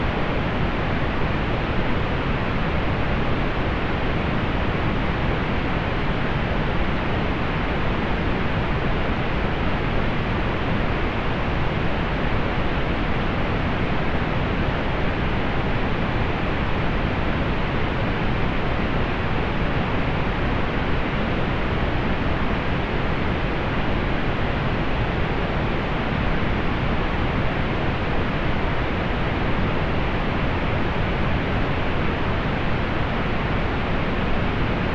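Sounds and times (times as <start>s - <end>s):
pink noise hiss: 0.0s - 34.9s.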